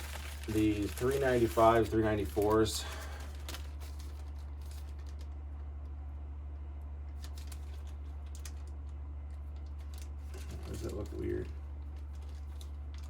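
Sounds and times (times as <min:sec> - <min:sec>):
packaging being handled: 0:00.0 - 0:05.4, 0:07.1 - 0:08.8, 0:09.4 - 0:13.0
steady low hum: 0:00.0 - 0:13.0.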